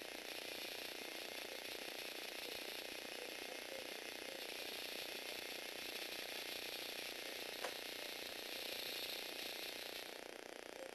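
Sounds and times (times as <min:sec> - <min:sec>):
robot motor and gears ticking: 0:00.0 - 0:10.9.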